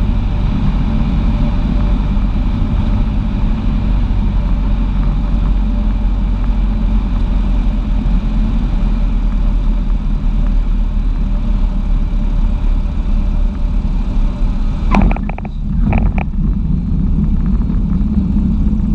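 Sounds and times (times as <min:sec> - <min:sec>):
propeller plane engine drone: 0:00.0 - 0:18.9.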